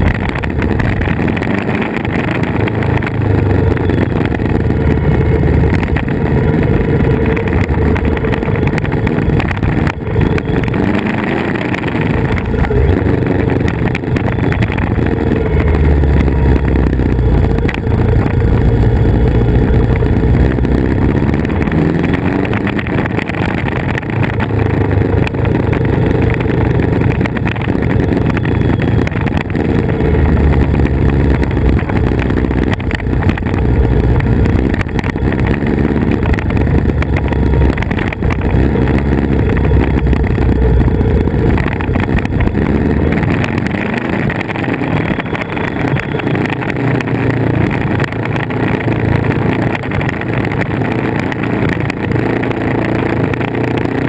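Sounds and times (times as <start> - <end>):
motorcycle engine rumble: 0.0 - 54.0
wind rushing over microphone: 0.0 - 54.0.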